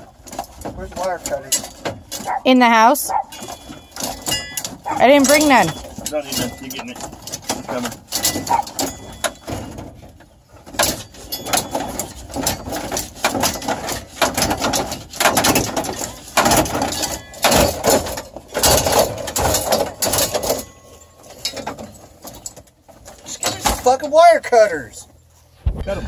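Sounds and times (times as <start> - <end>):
tools knocking and scraping plastic: 0.0 - 24.0.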